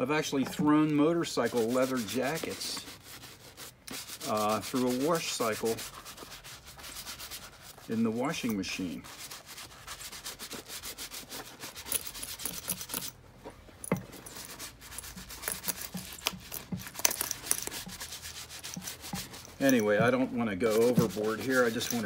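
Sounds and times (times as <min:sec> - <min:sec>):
brush scrubbing leather boot: 0:00.2 - 0:13.1, 0:14.0 - 0:22.0.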